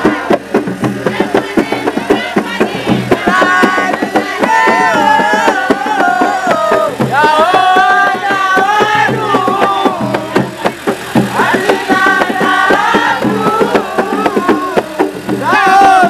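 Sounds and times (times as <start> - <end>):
hand drums beaten fast: 0.0 - 16.0
loud group singing: 0.0 - 16.0.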